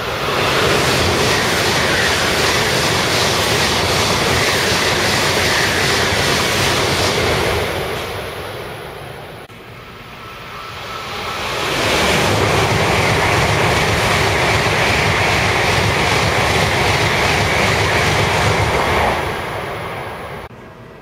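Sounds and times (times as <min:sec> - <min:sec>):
high-speed train rushing past: 0:00.0 - 0:21.0.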